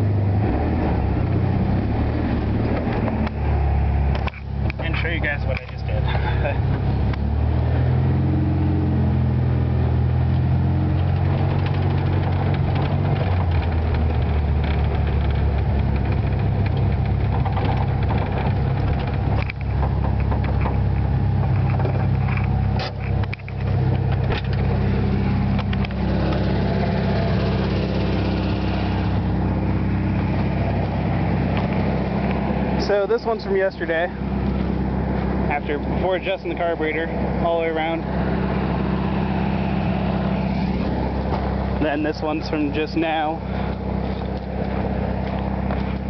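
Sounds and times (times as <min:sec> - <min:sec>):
air-cooled car engine running: 0:00.0 - 0:46.0.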